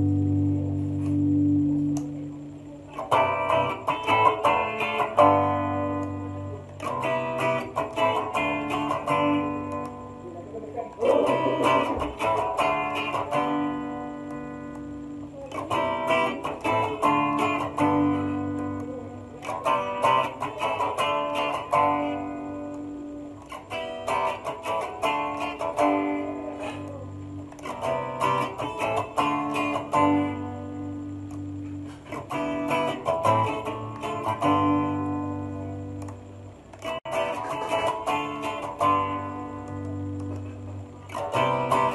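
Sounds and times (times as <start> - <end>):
electric guitar riff: 0.0 - 41.9.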